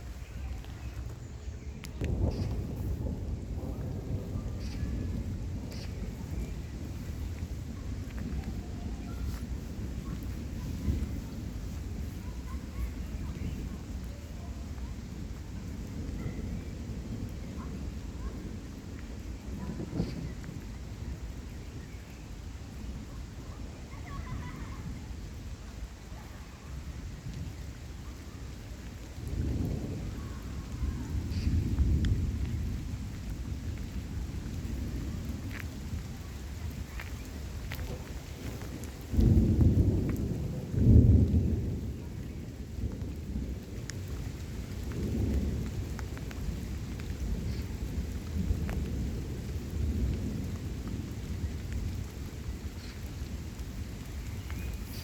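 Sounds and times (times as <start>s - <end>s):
steady rain: 0.0s - 55.0s
thunder rumbling: 0.0s - 55.0s.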